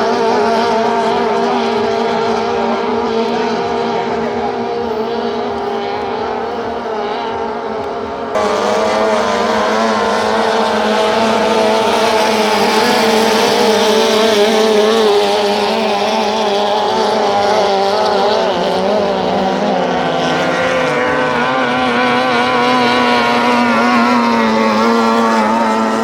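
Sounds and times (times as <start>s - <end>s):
boat outboard motors racing: 0.0s - 26.0s.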